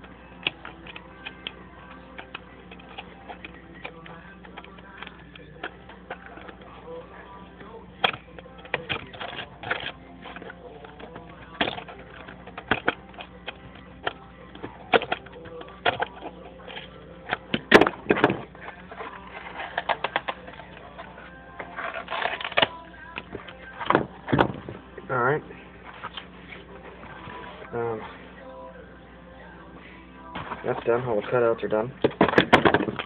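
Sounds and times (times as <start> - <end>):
faint background music: 0.0 - 33.0.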